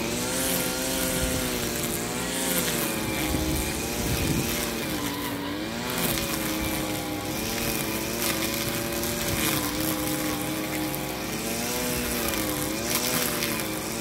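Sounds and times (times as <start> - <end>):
grass cutter engine under load: 0.0 - 14.0.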